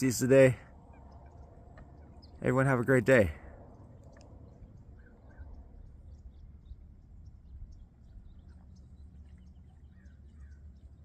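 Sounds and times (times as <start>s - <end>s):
small birds chirping: 0.0s - 11.0s
wind rumbling on microphone: 0.0s - 11.0s.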